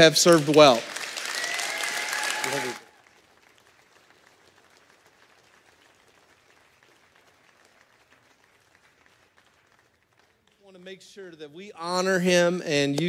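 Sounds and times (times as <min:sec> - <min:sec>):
congregation applauding: 0:00.0 - 0:11.9.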